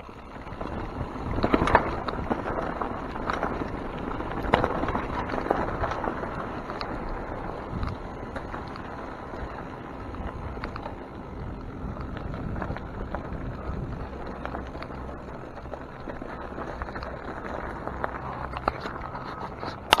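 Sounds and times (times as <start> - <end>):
bike clicks and rattles: 0.0 - 20.0
bike rolling on trail: 0.0 - 20.0.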